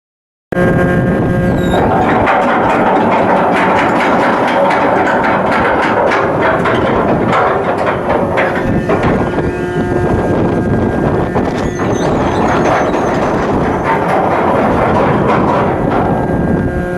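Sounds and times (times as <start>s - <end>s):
ship machinery din: 0.6s - 16.9s.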